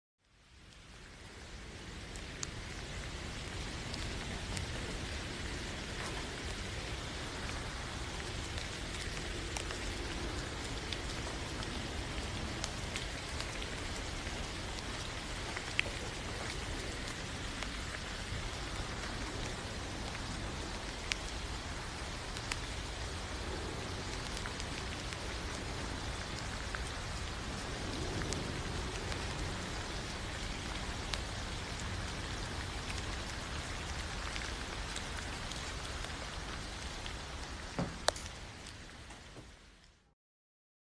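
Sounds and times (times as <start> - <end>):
steady rain falling: 0.2 - 40.2.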